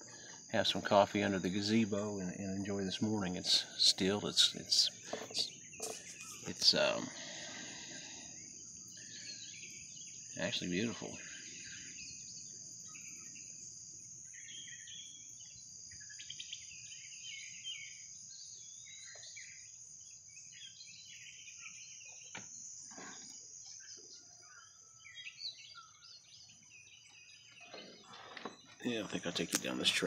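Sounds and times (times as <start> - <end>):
bird chirps and calls: 0.0 - 13.5, 14.2 - 30.0
insects trilling: 0.0 - 30.0.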